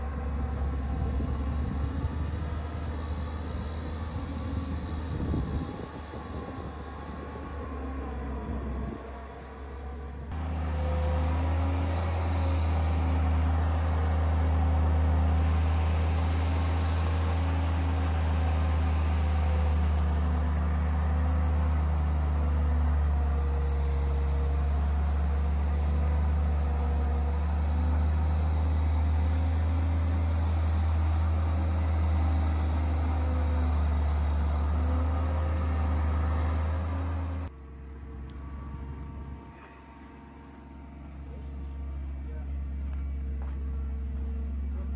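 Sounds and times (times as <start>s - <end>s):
engine humming steadily: 0.0s - 44.9s.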